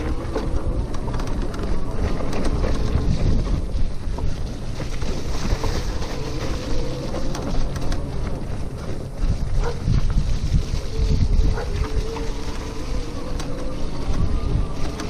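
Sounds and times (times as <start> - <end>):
electric bicycle rumbling: 0.0 - 15.0
small clicks and rattles: 0.0 - 15.0
wind buffeting microphone: 0.0 - 15.0.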